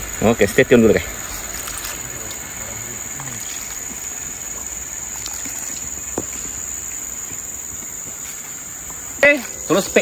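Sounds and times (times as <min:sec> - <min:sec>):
forest insects droning: 0:00.0 - 0:10.0.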